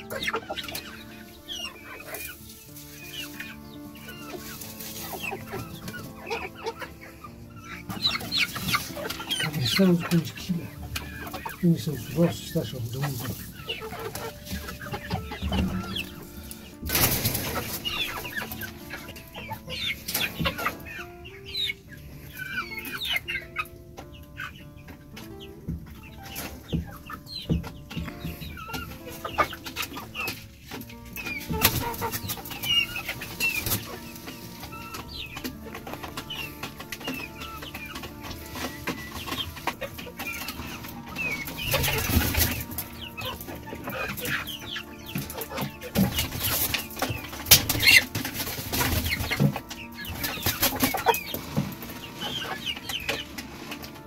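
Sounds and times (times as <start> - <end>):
chickens clucking and chirping: 0.0 - 54.0
soft background music: 0.0 - 54.0.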